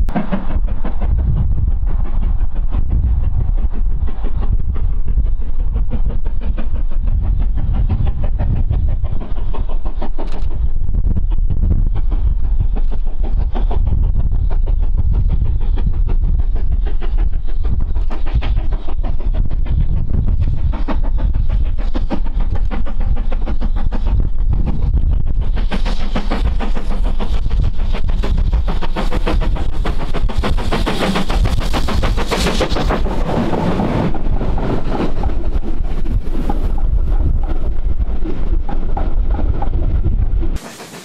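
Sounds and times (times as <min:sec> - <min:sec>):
deep rumble of train: 0:00.0 - 0:41.0
steam locomotive exhaust beats: 0:00.0 - 0:41.0.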